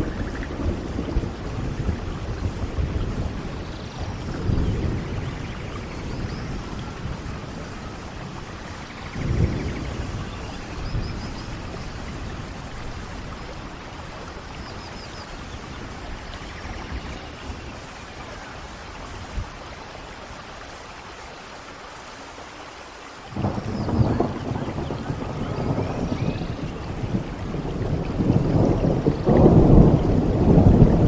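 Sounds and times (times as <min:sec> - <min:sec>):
deep thunder rumbles: 0:00.0 - 0:19.5, 0:23.3 - 0:31.0
heavy rain: 0:00.0 - 0:31.0.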